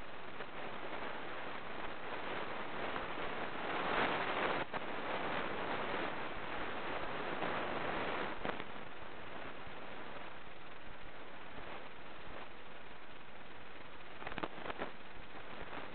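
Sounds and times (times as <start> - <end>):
camera microphone hiss: 0.0 - 15.9.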